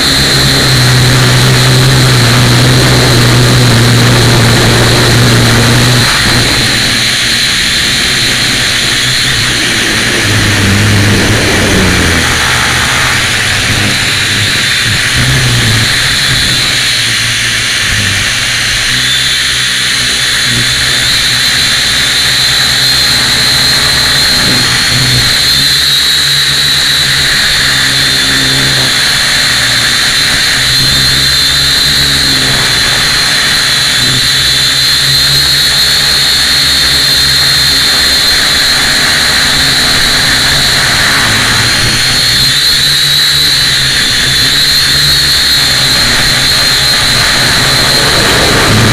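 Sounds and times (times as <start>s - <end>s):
low rumbling: 0.0s - 48.9s
quadcopter motors whining: 0.0s - 48.9s.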